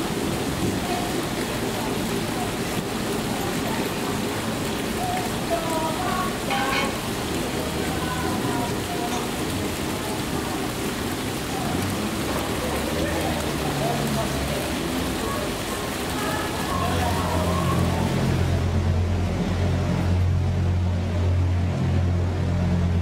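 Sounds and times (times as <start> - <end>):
faint voices: 0.0 - 20.0
water splashing and rushing: 0.0 - 23.0.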